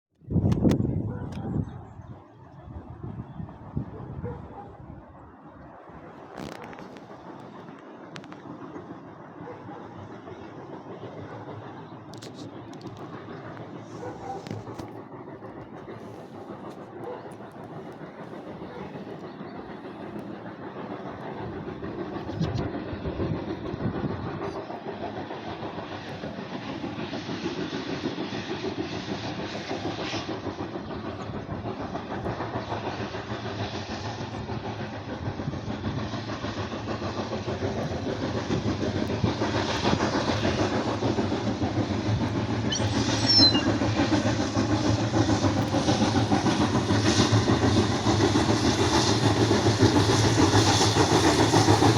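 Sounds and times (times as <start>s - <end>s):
train rumbling on rails: 0.2s - 51.9s
steam locomotive running: 0.3s - 51.9s.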